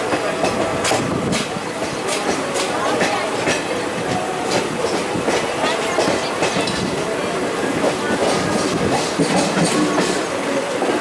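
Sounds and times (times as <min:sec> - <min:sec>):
train rolling rumble: 0:00.0 - 0:11.0
wheels clacking over rail joints: 0:00.0 - 0:11.0.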